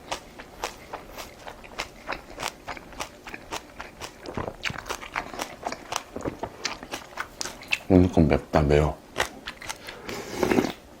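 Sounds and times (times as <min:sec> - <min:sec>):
person chewing food: 0:00.0 - 0:08.1, 0:09.1 - 0:10.9.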